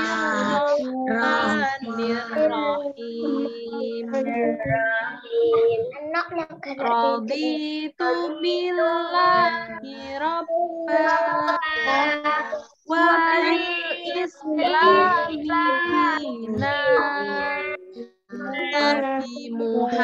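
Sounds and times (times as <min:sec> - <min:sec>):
children and woman chanting prayer: 0:00.0 - 0:20.0.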